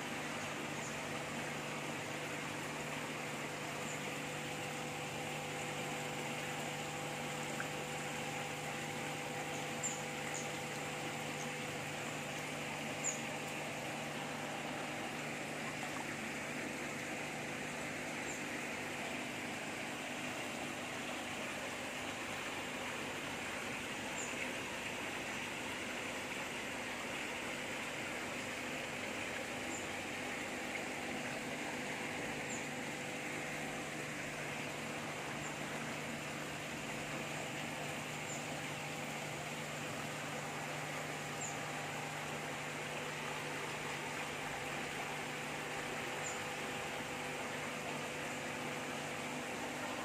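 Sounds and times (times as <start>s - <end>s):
faint steady hum: 0.0s - 50.0s
running water rushing: 0.0s - 50.0s.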